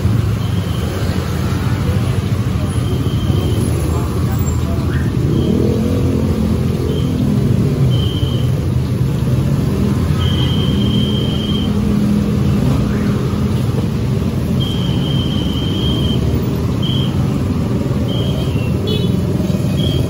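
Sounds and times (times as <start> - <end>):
low rumble of engines: 0.0 - 20.0.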